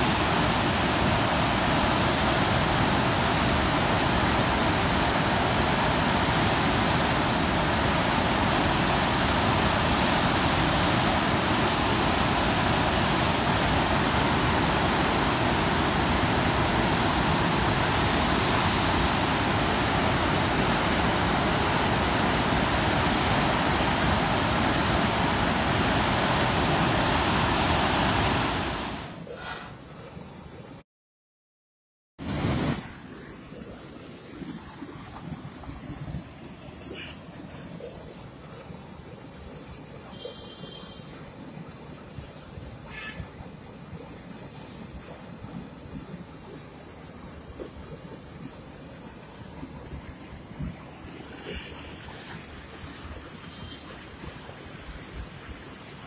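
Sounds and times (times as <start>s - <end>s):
water rushing through sluice gates: 0.0s - 29.3s, 32.2s - 56.0s.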